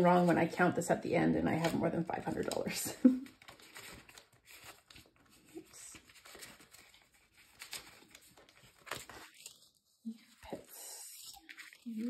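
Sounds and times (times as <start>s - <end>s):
paper and banknotes rustling: 0.0s - 12.0s.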